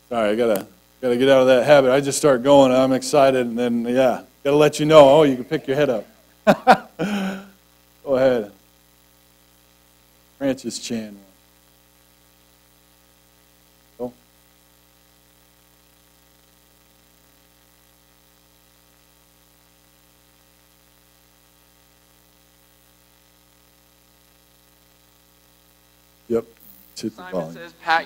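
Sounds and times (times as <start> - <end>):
electrical mains hum: 0.0 - 28.0
faint hiss: 0.0 - 28.0.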